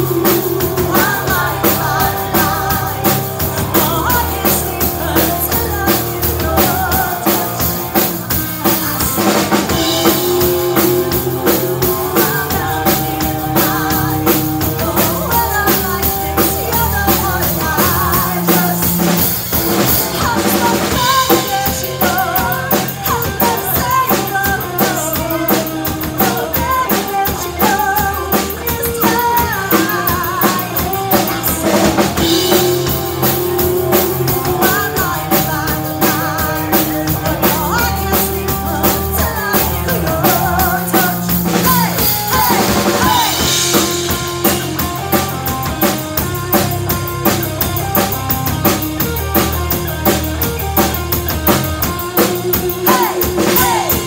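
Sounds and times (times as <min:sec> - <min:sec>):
women singing: 0:00.0 - 0:44.7, 0:52.7 - 0:54.0
bass guitar: 0:00.0 - 0:54.0
drum kit beat: 0:00.0 - 0:54.0
electric guitar: 0:00.0 - 0:54.0.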